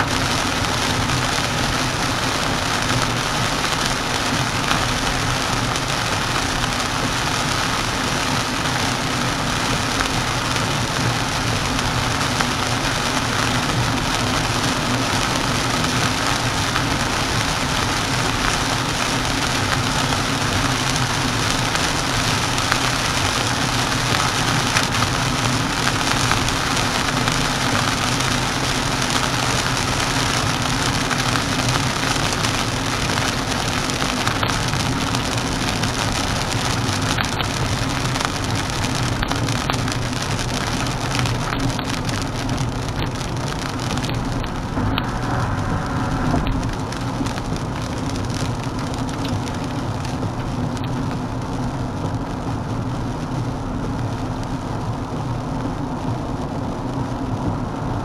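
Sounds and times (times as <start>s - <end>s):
tyre and road noise: 0.0s - 54.8s
heavy rain on a car: 0.0s - 58.0s.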